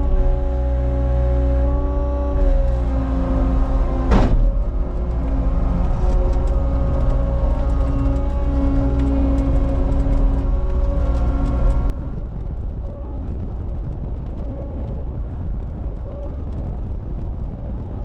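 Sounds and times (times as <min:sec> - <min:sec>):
diesel engine running with whine: 0:00.0 - 0:18.0.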